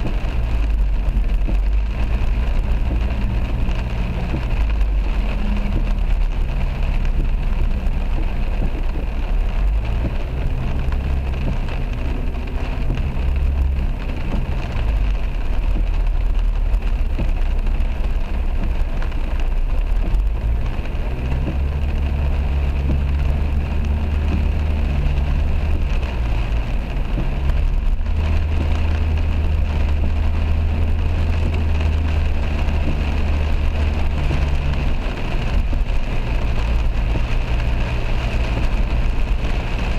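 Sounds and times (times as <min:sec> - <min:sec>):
car engine drone: 0:00.0 - 0:39.9
heavy rain on a car: 0:00.0 - 0:39.9
tyres on a wet road: 0:00.0 - 0:39.9.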